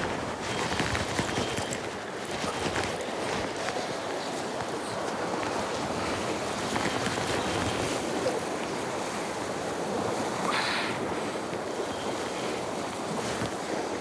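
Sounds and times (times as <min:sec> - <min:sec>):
sea surf on rocky shore: 0:00.0 - 0:14.0.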